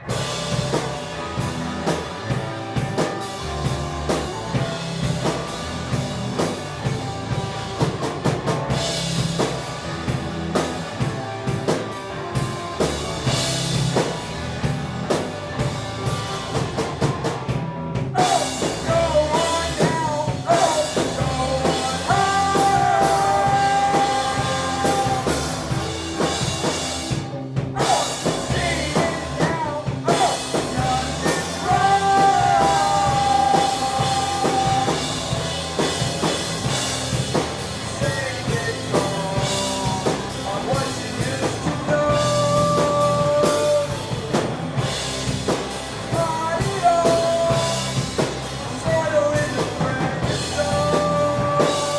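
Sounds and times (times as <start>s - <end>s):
drum kit beat: 0.0s - 51.9s
rock band playing: 0.0s - 51.9s.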